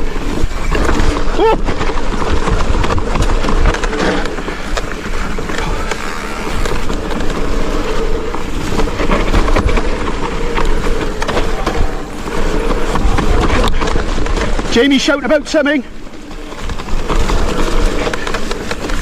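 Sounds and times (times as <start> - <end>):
bike tyres rolling: 0.0 - 19.0.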